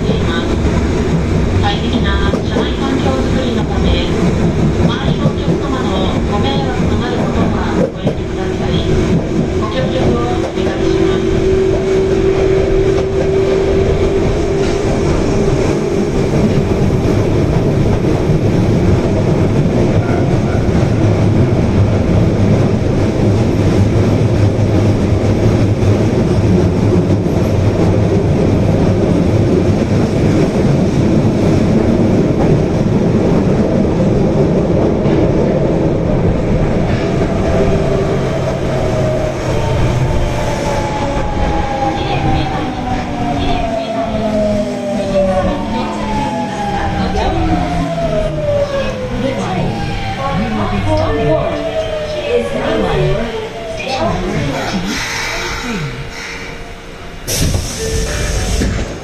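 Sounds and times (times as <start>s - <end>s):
subway train wheels rumbling on rail: 0.0s - 59.0s.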